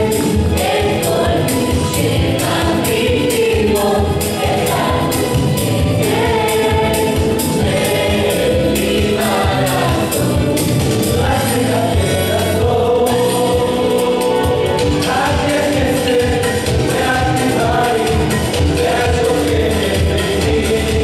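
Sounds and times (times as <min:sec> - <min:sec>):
group singing pop song: 0:00.0 - 0:21.0.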